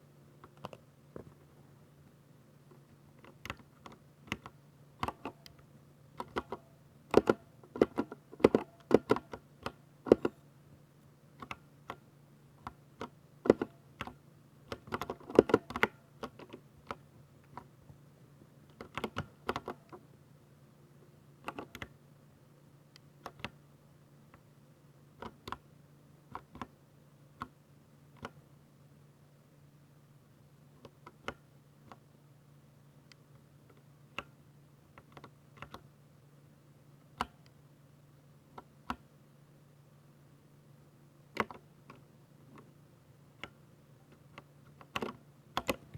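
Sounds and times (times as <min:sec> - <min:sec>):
faint low hum: 0:00.0 - 0:45.9.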